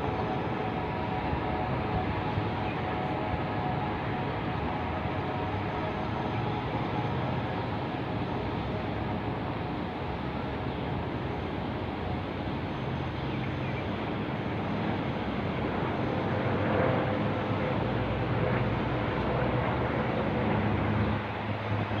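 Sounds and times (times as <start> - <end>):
urban hum and hiss: 0.0 - 22.0.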